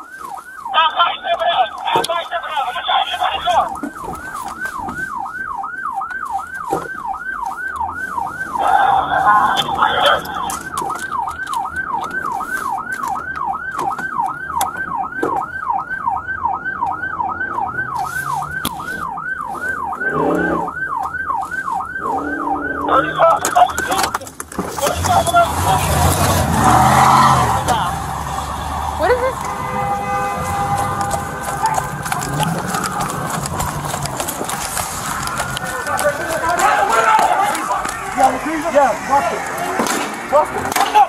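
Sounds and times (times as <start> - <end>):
siren yelping: 0.0 - 41.0.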